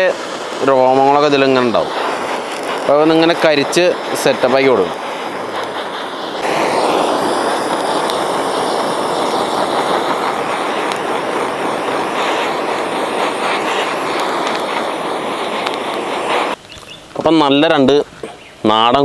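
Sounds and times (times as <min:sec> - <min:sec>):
blowtorch flame hissing: 0:00.0 - 0:16.9.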